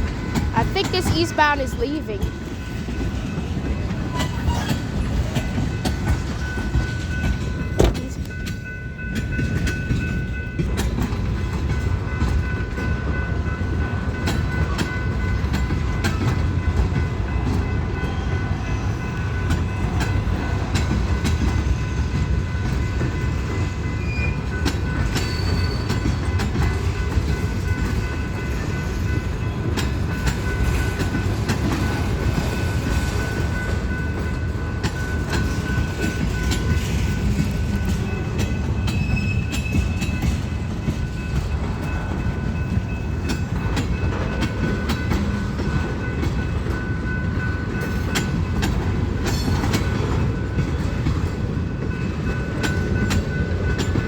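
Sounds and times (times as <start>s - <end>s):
freight train rumbling: 0.0s - 54.0s
wheels clicking over rail joints: 0.0s - 54.0s.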